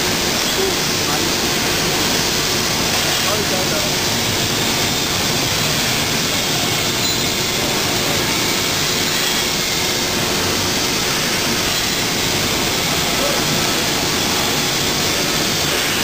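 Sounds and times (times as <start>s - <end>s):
heavy machinery running: 0.0s - 16.0s.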